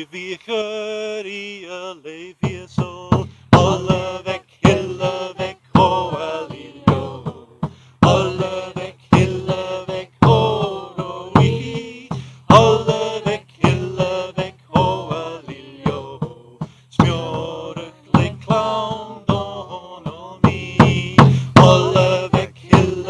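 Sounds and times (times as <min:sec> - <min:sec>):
voices singing: 0:00.0 - 0:23.0
drum beats: 0:02.4 - 0:23.0.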